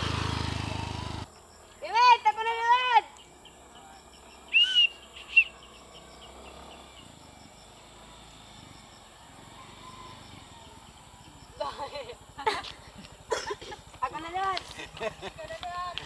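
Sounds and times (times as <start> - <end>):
distant motor scooter hum: 0.0 - 16.0.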